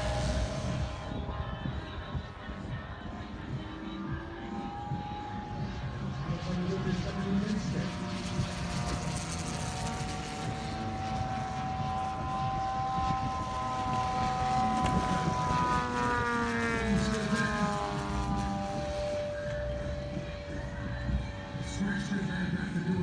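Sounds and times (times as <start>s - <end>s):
model plane propeller engines: 0.0s - 23.0s.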